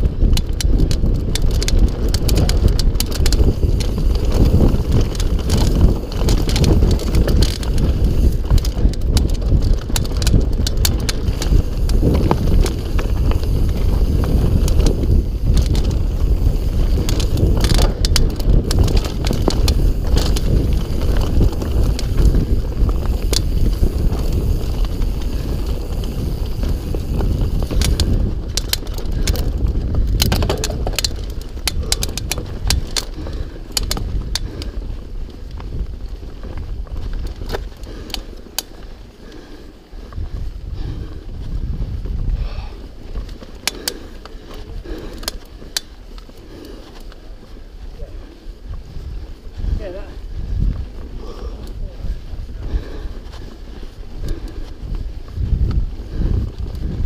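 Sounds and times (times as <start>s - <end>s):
bike rattling over bumps: 0.0s - 57.0s
bike tyres rumbling over dirt: 0.0s - 57.0s
wind buffeting microphone: 0.0s - 57.0s.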